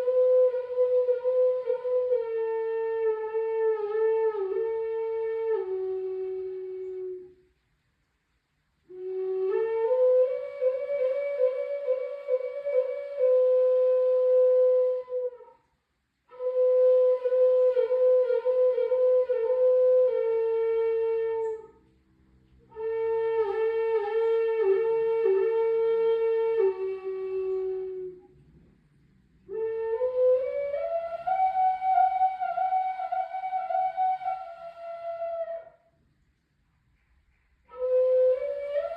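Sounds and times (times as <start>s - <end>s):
slow wordless melody: 0.0s - 36.1s, 37.1s - 38.9s.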